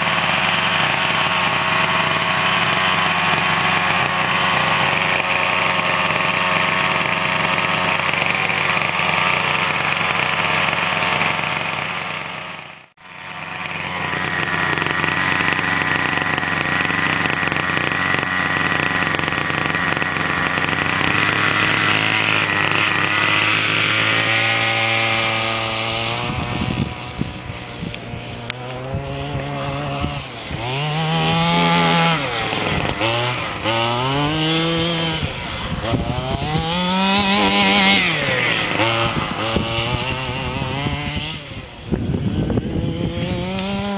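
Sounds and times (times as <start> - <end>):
small two-stroke engine revving: 0.0 - 43.9.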